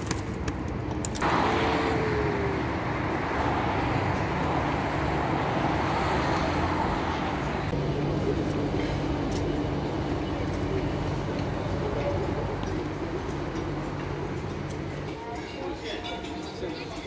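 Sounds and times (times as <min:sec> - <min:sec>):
road traffic rush: 0:00.0 - 0:15.4.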